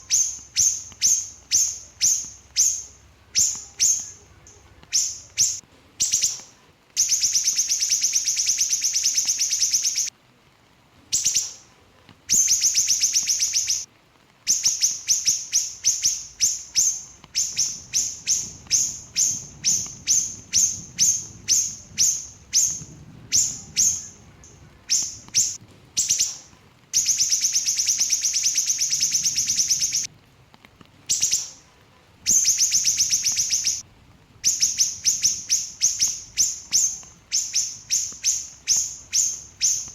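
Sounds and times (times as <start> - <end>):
songbird trilling and chirping: 0.0 - 10.1, 11.1 - 11.6, 12.3 - 13.9, 14.5 - 30.1, 31.1 - 31.6, 32.3 - 33.8, 34.4 - 39.9.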